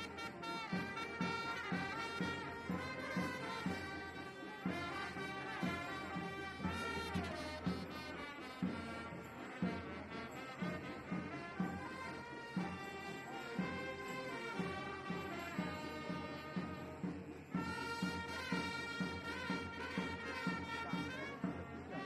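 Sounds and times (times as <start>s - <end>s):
horn-like wind instruments melody: 0.0s - 22.0s
steady drum beat: 0.0s - 22.0s.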